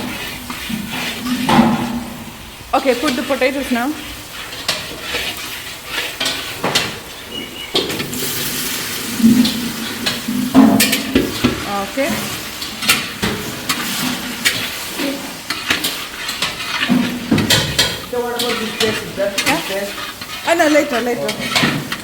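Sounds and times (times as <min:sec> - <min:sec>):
spatula scraping pan: 0:00.0 - 0:22.0
vegetables sizzling in oil: 0:00.0 - 0:22.0.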